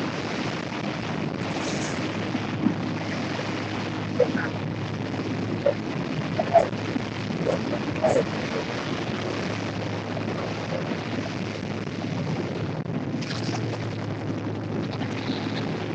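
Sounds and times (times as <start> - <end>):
boat engine hum: 0.0 - 15.9
wind on microphone: 0.0 - 15.9.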